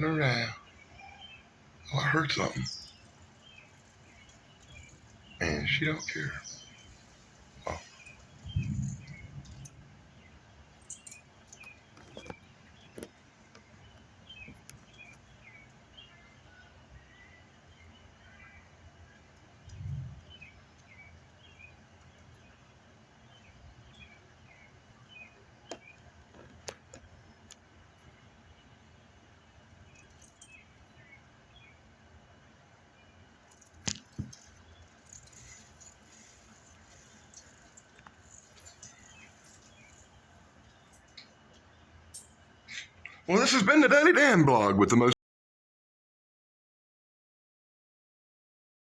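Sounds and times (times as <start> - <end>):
small birds chirping: 0.0 - 45.1.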